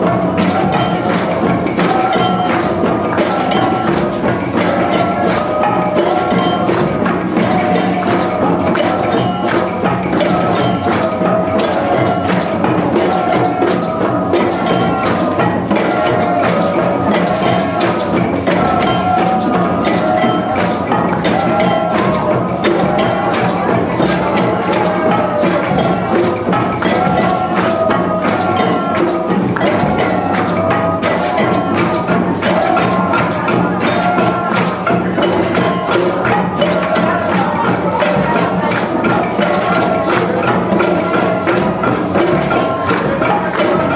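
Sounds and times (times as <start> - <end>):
quick percussive strokes: 0.0 - 43.9.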